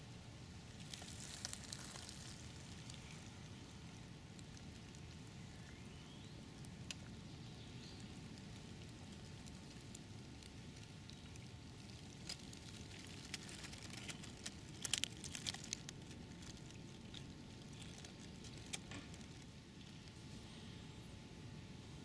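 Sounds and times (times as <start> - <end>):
background hiss and low rumble: 0.0 - 22.0.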